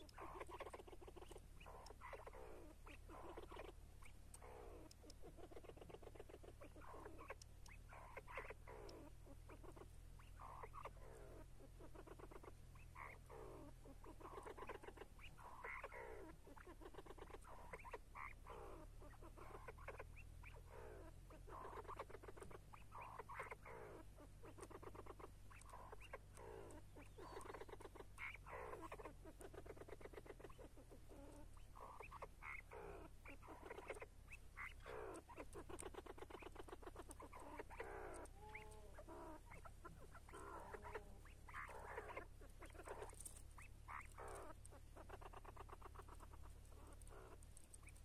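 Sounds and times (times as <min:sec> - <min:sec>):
partridge clucking calls: 0:00.0 - 0:48.0.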